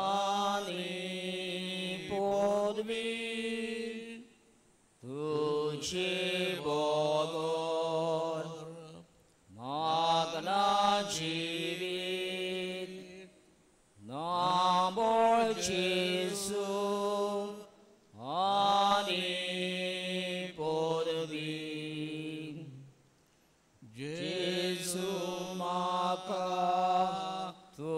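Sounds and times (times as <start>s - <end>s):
person singing devotional chant: 0.0s - 4.4s, 5.0s - 23.0s, 23.8s - 27.9s.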